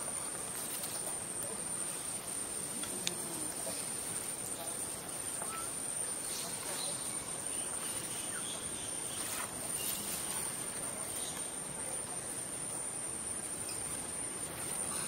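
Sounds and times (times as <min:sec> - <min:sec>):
insects calling: 0:00.0 - 0:15.0
low background hiss: 0:00.0 - 0:15.0.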